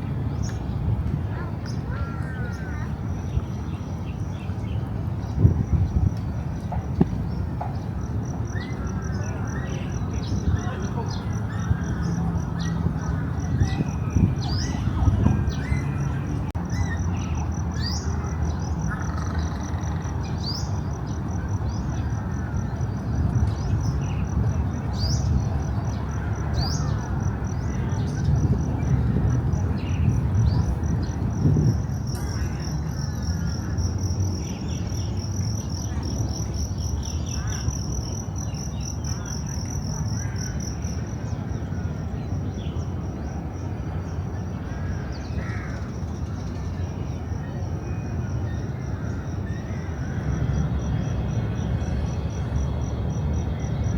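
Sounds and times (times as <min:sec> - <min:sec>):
insect trill: 0:07.3 - 0:53.9.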